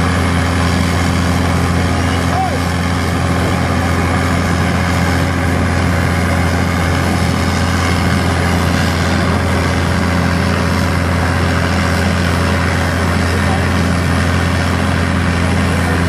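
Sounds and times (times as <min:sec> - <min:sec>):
vibratory hammer low hum: 0:00.0 - 0:16.0.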